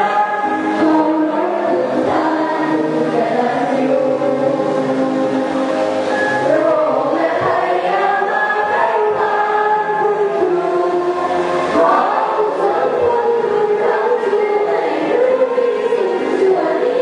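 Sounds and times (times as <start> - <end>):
choir singing in harmony: 0.0 - 17.0.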